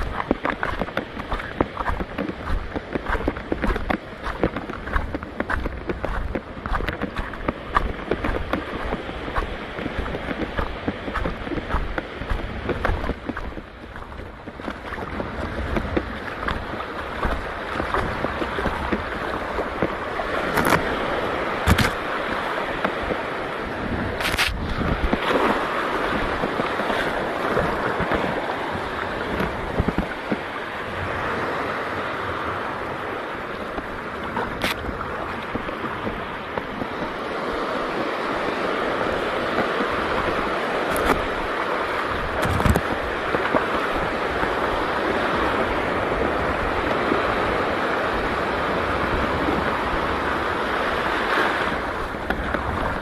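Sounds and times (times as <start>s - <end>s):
shallow sea water washing: 0.0s - 53.0s
wind buffeting microphone: 0.0s - 53.0s.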